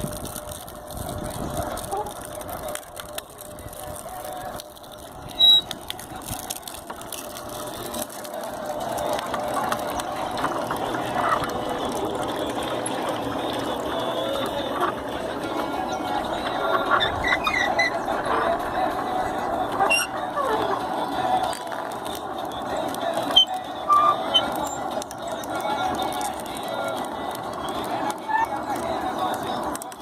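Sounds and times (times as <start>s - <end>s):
motorized mill rattling: 0.0s - 30.0s.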